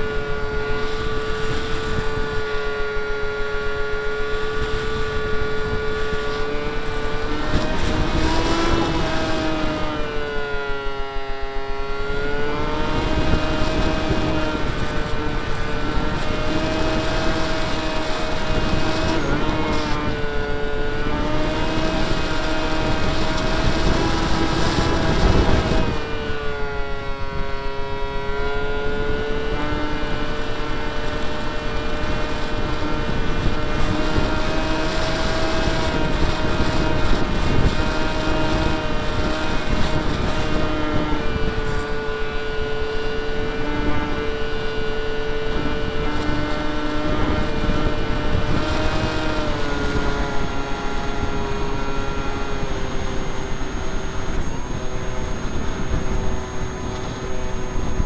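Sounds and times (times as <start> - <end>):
electric motor and propeller whine: 0.0 - 58.0
wind rushing on microphone: 0.0 - 58.0.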